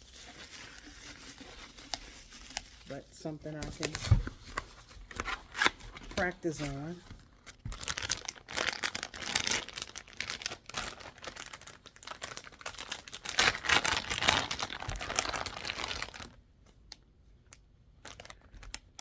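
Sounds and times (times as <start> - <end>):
packaging crinkling and rustling: 0.0 - 17.0, 18.0 - 19.0.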